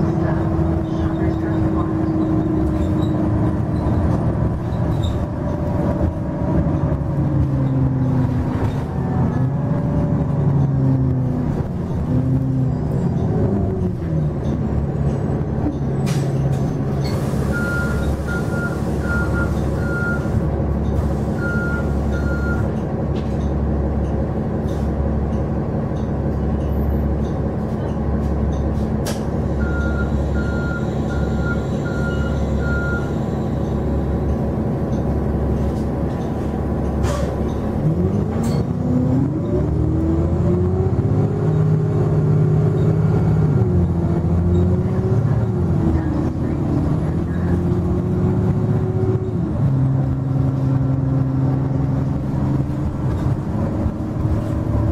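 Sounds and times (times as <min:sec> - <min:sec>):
bus diesel engine: 0:00.0 - 0:54.9.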